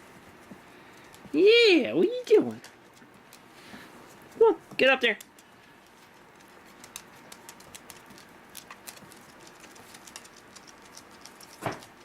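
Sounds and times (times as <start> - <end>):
puppies' light clicks and scratches: 0.0 - 12.0.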